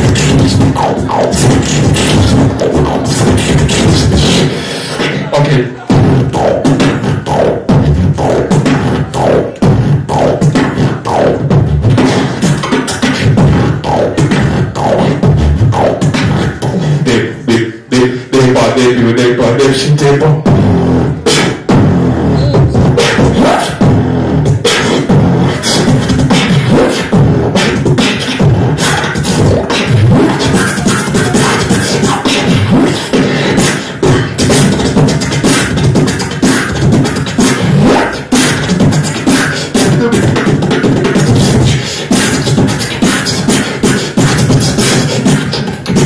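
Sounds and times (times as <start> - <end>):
hummed bass line: 0.0 - 4.6, 5.2 - 17.4, 20.0 - 42.8
human beatbox: 0.0 - 46.0.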